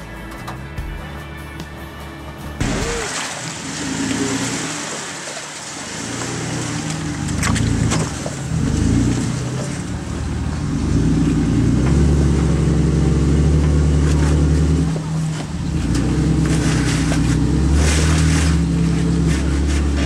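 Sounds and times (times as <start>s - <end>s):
off-road vehicle engine revving: 2.6s - 20.0s.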